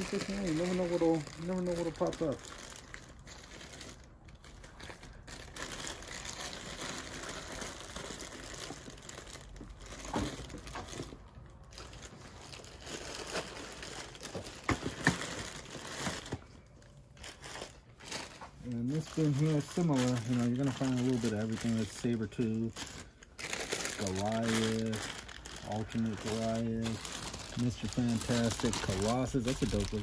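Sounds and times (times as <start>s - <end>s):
plastic bags crinkling: 0.0s - 30.0s.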